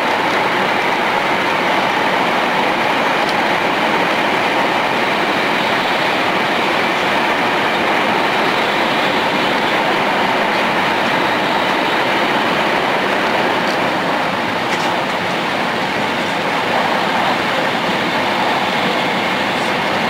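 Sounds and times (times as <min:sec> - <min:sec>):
train rushing noise: 0:00.0 - 0:20.0.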